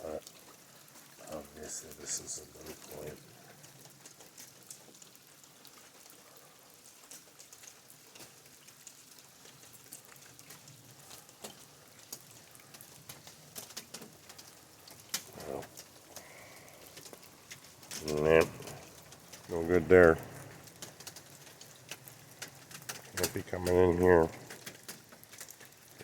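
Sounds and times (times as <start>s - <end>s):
water dripping: 0.0s - 26.0s.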